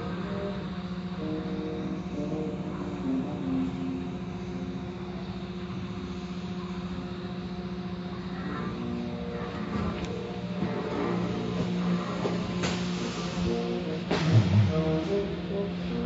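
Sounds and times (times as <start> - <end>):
car wash brushes humming: 0.0 - 16.0.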